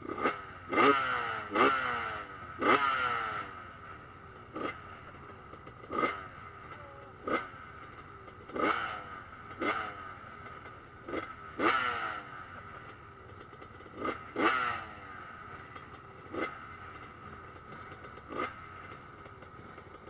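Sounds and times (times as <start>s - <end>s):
drone of distant bikes: 0.0s - 20.0s
motocross bikes revving past: 0.0s - 20.0s.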